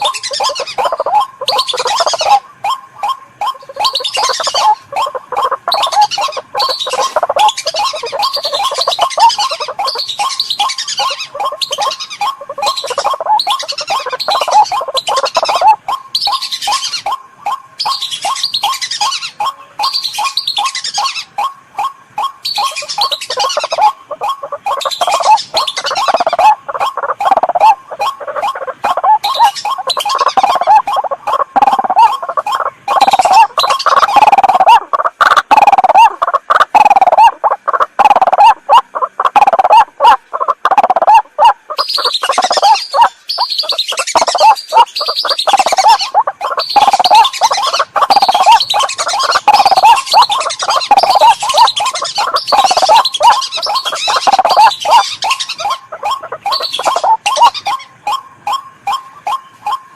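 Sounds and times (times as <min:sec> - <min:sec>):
harsh bird calls: 0:00.0 - 0:59.9
higher chattering bird call: 0:00.0 - 0:59.9.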